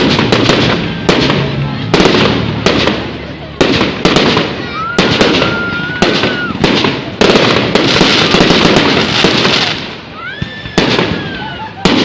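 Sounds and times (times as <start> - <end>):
fireworks bangs: 0.0 - 12.0
fireworks crackling: 0.0 - 12.0
fireworks whistling: 0.0 - 12.0.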